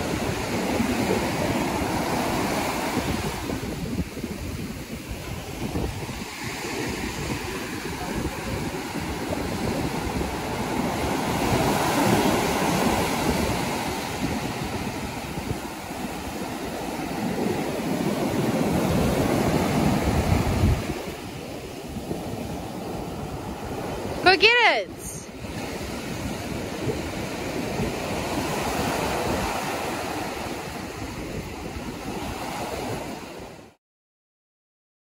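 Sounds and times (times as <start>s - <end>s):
wind buffeting microphone: 0.0s - 24.2s, 25.2s - 33.7s
surf breaking on a beach: 0.0s - 33.8s.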